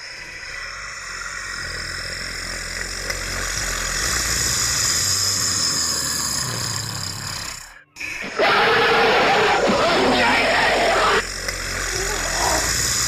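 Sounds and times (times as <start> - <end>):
hissing noisy drone: 0.0 - 13.0.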